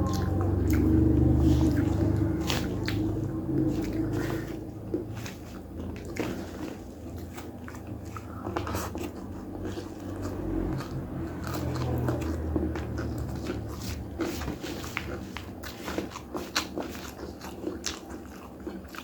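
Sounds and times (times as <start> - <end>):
biting and chewing: 0.0 - 19.0
low steady hum: 0.0 - 19.0.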